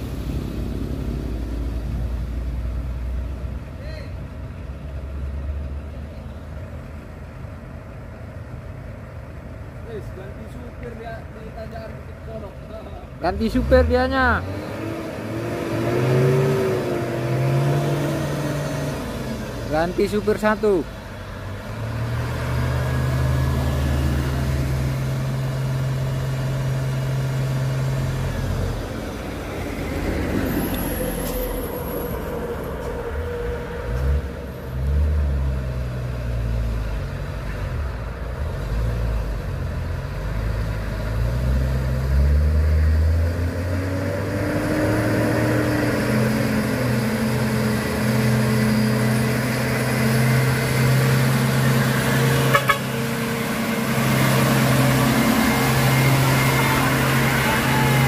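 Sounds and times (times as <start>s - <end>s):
truck diesel engine pulling away: 0.0s - 58.0s.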